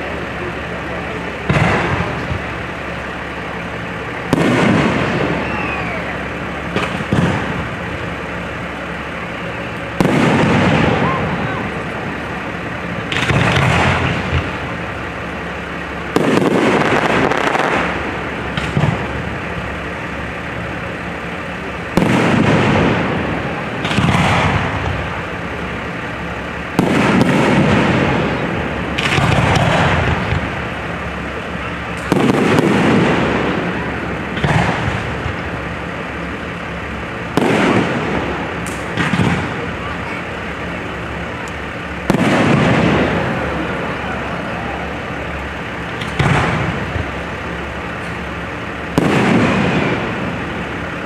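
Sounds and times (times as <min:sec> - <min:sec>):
firework shells bursting: 0:00.3 - 0:51.0.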